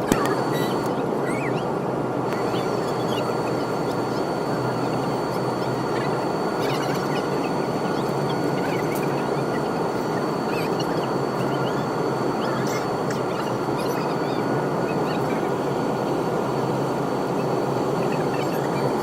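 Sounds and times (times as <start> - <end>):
faint steady whine: 0.0 - 19.0
jet cabin drone: 0.0 - 19.0.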